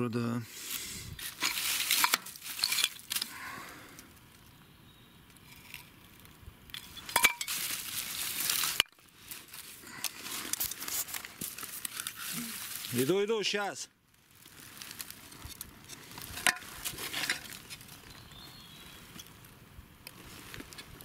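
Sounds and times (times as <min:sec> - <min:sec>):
rustling of dry leaves: 0:00.4 - 0:21.0
crackling: 0:00.5 - 0:21.0.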